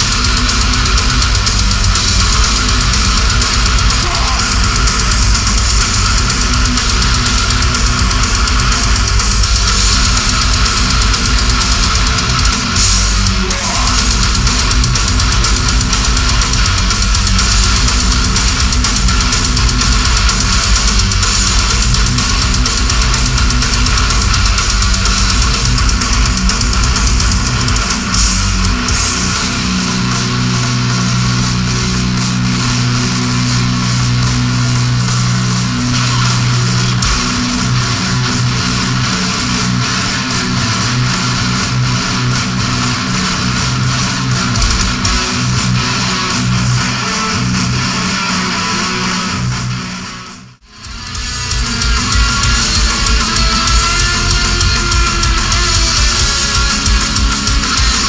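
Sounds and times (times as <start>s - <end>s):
death metal band playing: 0.0s - 58.0s.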